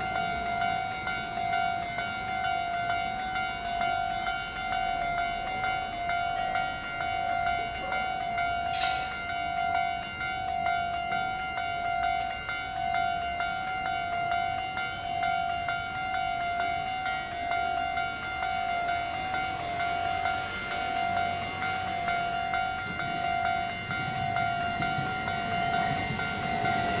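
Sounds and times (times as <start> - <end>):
railroad crossing bell ringing: 0.0 - 27.0.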